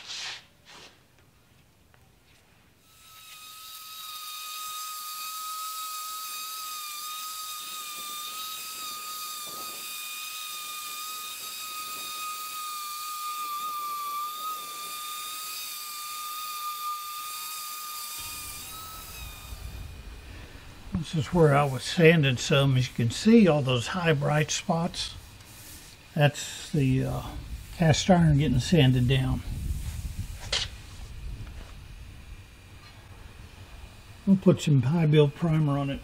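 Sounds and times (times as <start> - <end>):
orbital sander whining: 2.8 - 36.0.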